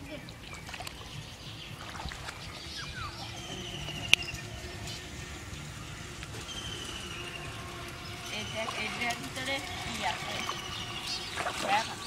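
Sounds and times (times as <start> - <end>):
birds calling in rapid trills: 0.0 - 12.0.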